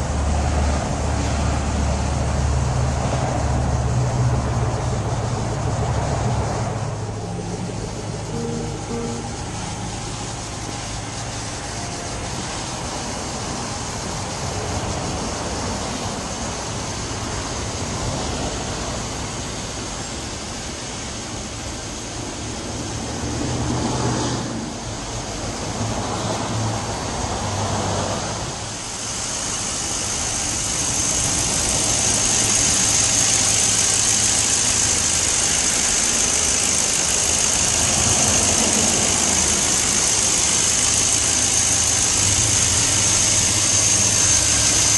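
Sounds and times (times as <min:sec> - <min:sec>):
car engine idling and revving: 0:00.0 - 0:44.9
loud steady hiss: 0:00.0 - 0:44.9.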